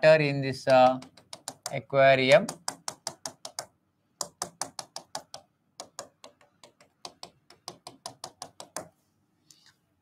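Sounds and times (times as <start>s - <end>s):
stylus tapping on glass: 0.7s - 8.9s.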